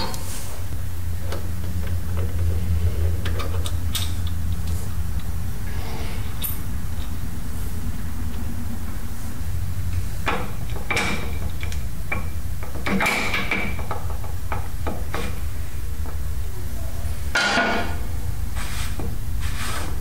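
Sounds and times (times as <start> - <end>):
low hum: 0.0 - 19.6.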